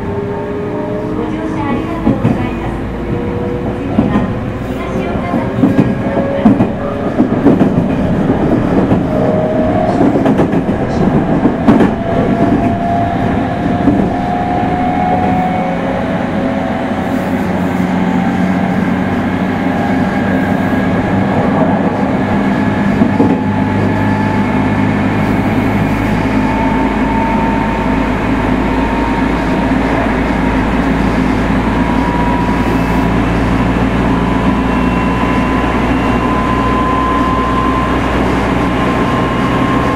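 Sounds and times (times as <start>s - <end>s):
rumbling rail noise: 0.0s - 39.9s.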